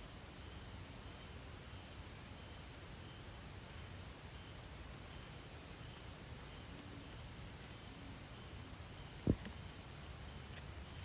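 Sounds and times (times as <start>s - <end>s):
steady forest hiss: 0.0s - 11.0s.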